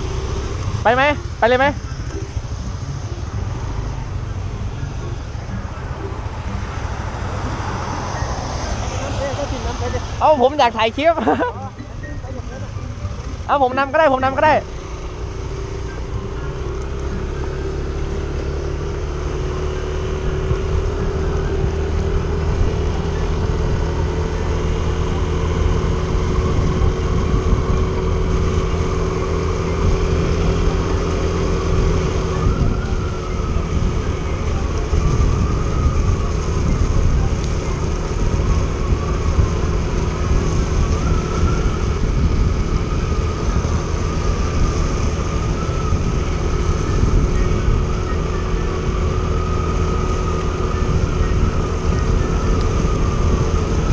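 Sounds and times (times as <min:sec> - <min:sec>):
scooter engine running: 0:00.0 - 0:53.9
wind and road noise: 0:00.0 - 0:53.9.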